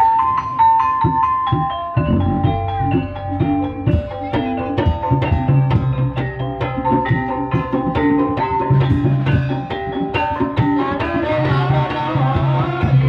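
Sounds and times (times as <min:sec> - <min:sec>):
hand drum beats: 0:00.0 - 0:13.0
struck keyed instruments ringing: 0:00.0 - 0:13.0.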